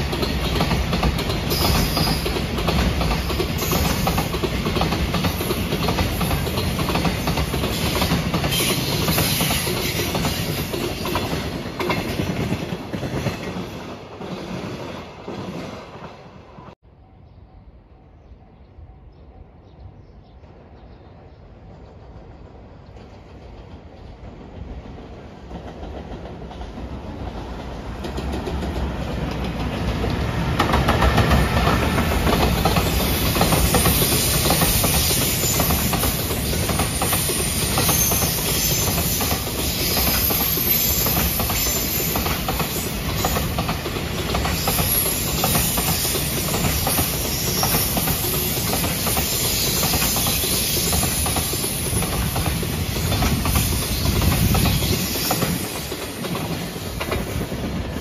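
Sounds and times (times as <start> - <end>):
freight train wheels clattering: 0.0 - 15.6, 22.2 - 58.0.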